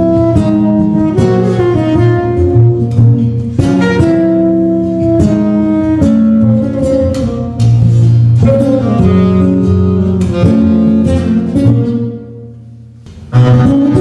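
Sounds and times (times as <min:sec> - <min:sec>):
live instrumental trio music: 0:00.0 - 0:14.0.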